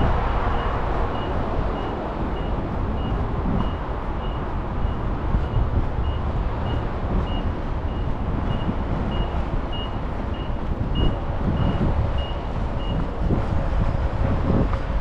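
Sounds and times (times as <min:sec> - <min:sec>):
road traffic rumble: 0:00.0 - 0:15.0
reversing alarm beeping: 0:00.5 - 0:13.0.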